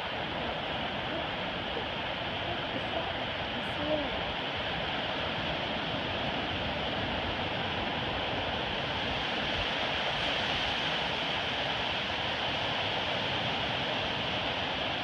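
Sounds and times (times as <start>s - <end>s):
surf breaking on a sandy beach: 0.0s - 15.0s.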